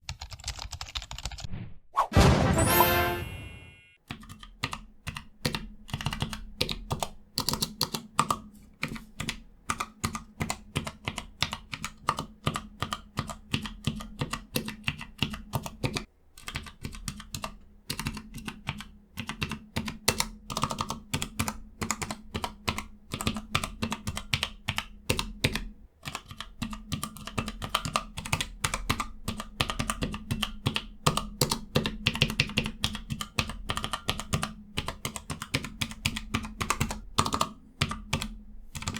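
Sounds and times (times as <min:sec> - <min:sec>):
keystroke clicks: 0:04.1 - 0:38.9.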